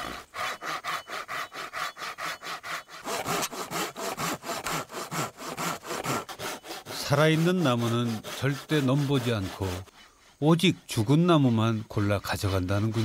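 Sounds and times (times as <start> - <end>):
hand saw cutting log: 0.0 - 13.0.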